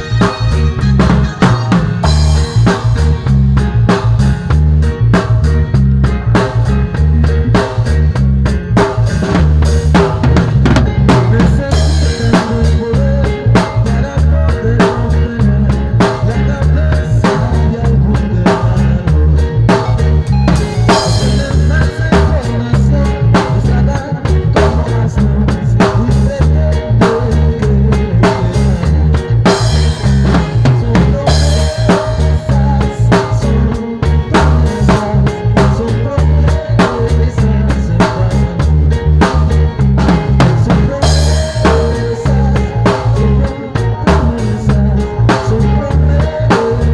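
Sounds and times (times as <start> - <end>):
drum kit playing a steady beat: 0.0 - 46.9
low bass line: 0.0 - 46.9.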